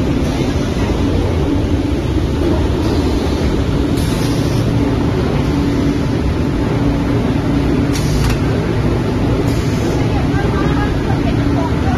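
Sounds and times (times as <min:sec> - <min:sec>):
loud machinery drone: 0:00.0 - 0:11.9.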